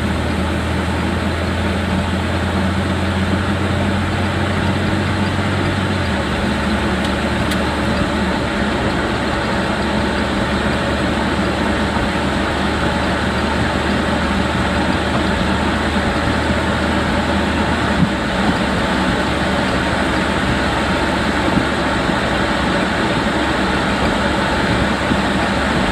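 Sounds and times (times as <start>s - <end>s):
road and drivetrain noise: 0.0s - 25.9s
vehicle bump: 3.3s - 25.9s.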